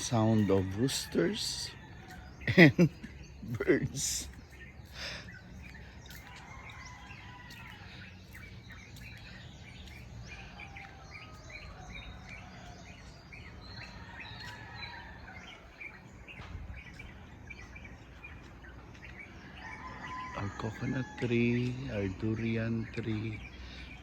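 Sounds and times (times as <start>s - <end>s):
steady low hum: 0.0s - 19.8s
small birds chirping: 0.0s - 24.0s.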